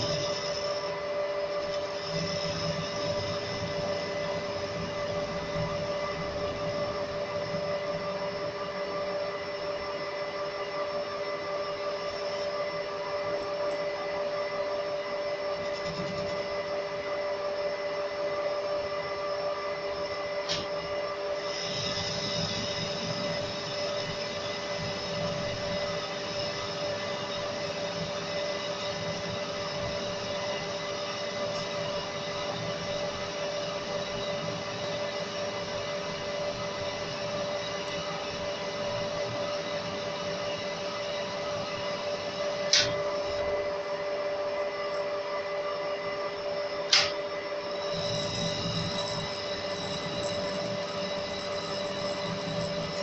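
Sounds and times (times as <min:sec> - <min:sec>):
metal lathe gear hum: 0:00.0 - 0:53.0.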